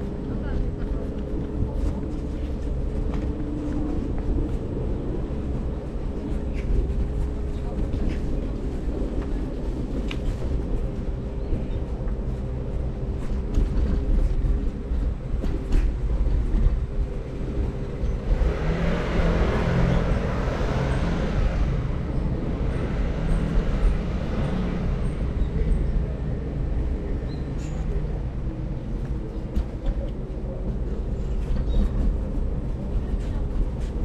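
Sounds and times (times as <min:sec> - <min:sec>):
wind and road noise rumble: 0:00.0 - 0:34.0.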